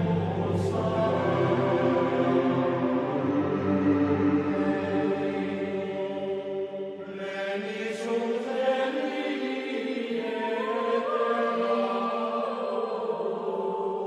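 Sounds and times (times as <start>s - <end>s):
voices chanting long notes: 0.0s - 14.0s.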